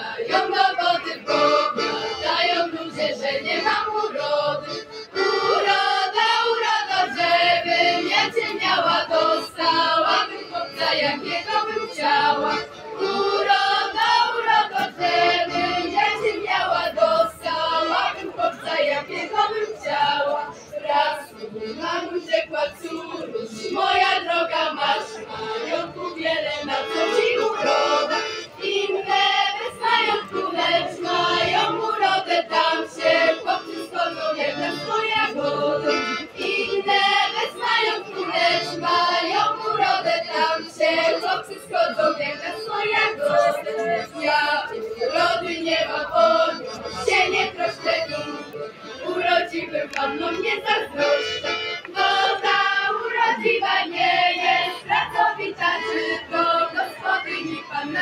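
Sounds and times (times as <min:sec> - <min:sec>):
accordion: 0:00.0 - 0:58.0
women singing folk song: 0:00.0 - 0:58.0.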